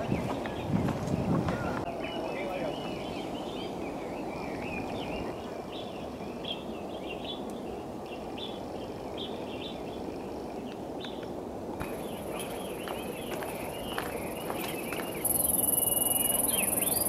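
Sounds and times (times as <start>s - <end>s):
small birds chirping: 0.0s - 17.0s
steady rushing background noise: 0.1s - 17.0s.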